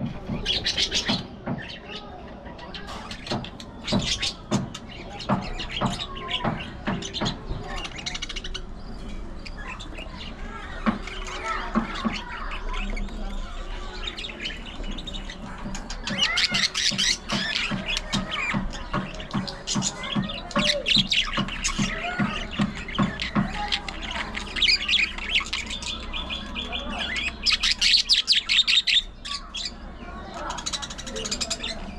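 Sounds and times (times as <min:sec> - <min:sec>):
budgerigars chattering: 0:00.0 - 0:31.9.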